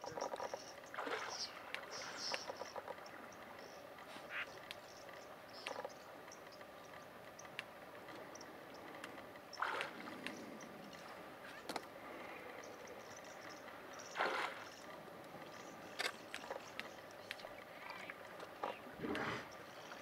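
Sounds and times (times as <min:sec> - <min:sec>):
water lapping: 0:00.1 - 0:05.0, 0:07.8 - 0:20.0.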